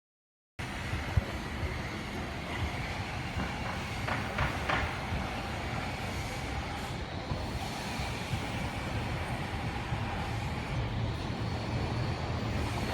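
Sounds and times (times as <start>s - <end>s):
train rumble: 0.6s - 12.9s.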